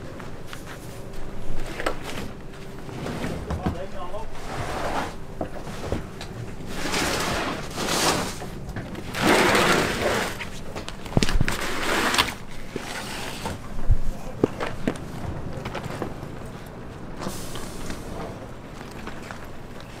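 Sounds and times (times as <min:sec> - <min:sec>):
suitcases scraping across floor: 0:00.2 - 0:20.0.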